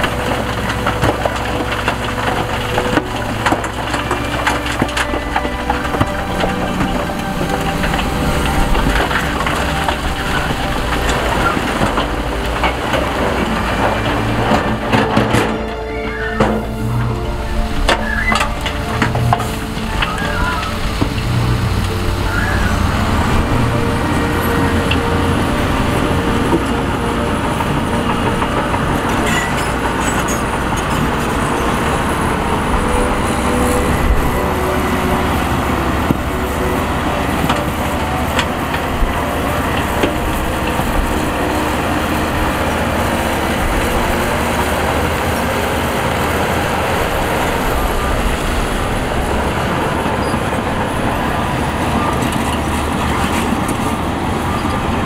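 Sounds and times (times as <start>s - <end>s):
diesel construction machinery running: 0.0s - 55.0s.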